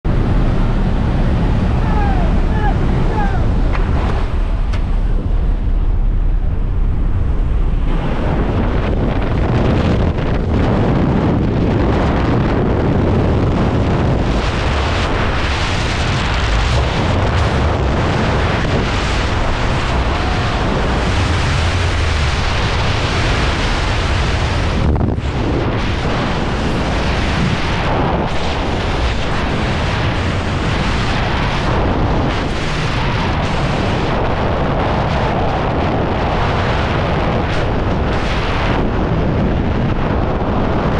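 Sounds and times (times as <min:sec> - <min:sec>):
wind blasting over microphone: 0:00.0 - 0:40.9.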